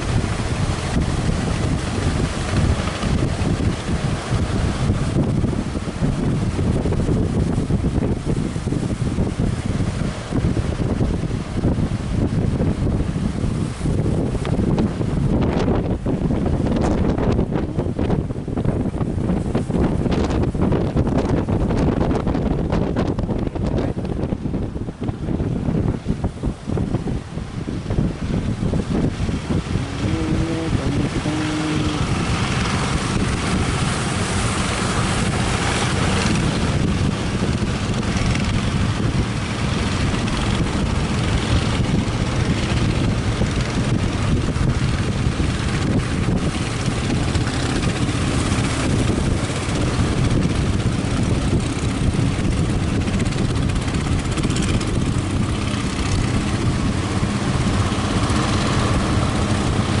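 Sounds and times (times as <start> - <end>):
outboard motor running: 0.0 - 60.0
rush of waves: 0.0 - 60.0
wind on microphone: 0.0 - 60.0.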